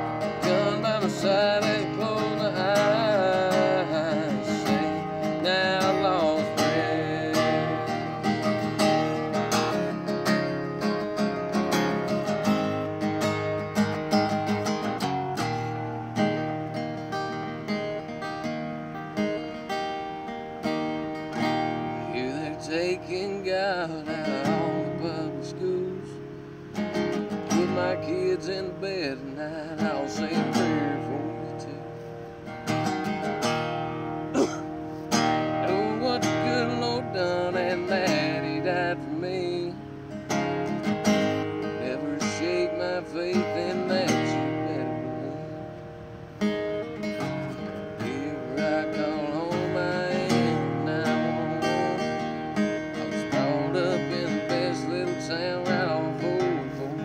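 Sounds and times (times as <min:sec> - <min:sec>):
acoustic guitar strumming and picking: 0:00.0 - 0:57.0.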